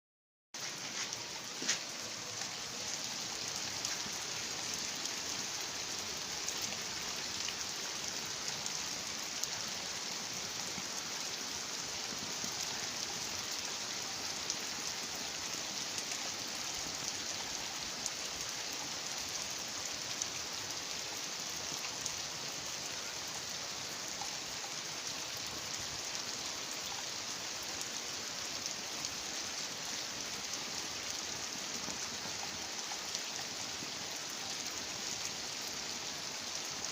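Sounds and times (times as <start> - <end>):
heavy rain: 0.6 - 36.9.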